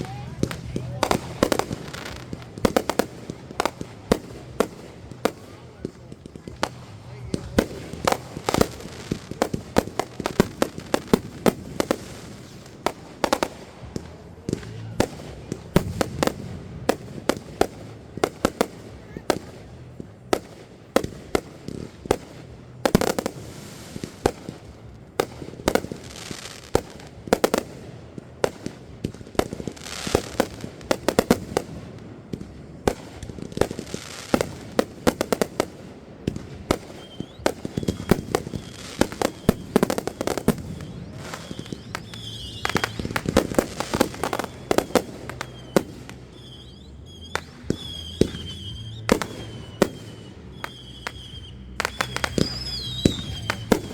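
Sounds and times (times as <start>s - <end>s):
fireworks banging and crackling: 0.0s - 53.9s.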